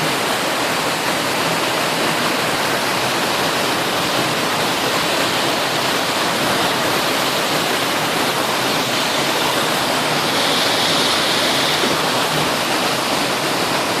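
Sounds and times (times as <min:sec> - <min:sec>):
water fountain splashing: 0:00.0 - 0:14.0.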